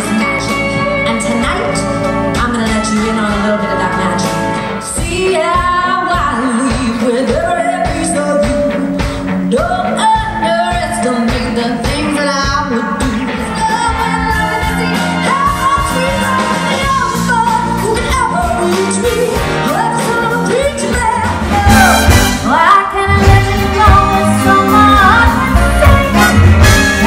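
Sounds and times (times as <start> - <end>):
woman singing a pop ballad: 0.0 - 21.6, 22.4 - 27.0
live band with horns: 0.0 - 27.0.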